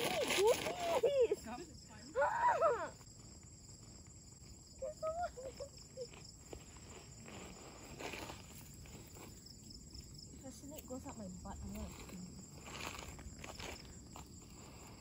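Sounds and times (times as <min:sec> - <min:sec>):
faint high insect drone: 0:00.0 - 0:15.0.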